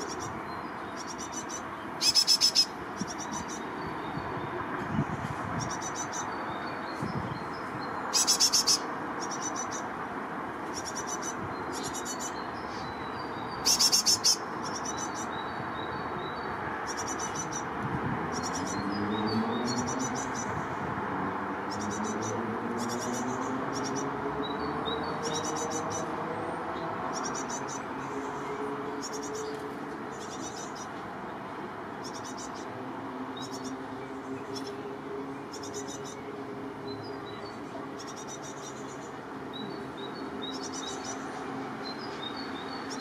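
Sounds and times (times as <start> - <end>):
birds chirping high: 0.0 - 43.0.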